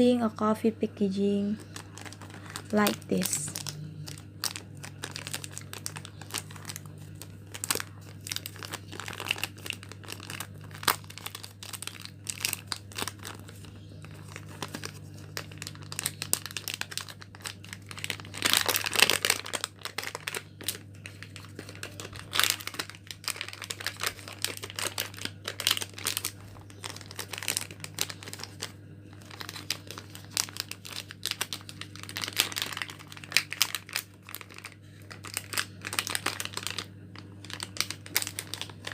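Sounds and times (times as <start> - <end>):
steady low hum: 0.0 - 38.9
plastic wrappers crinkling: 1.1 - 38.9.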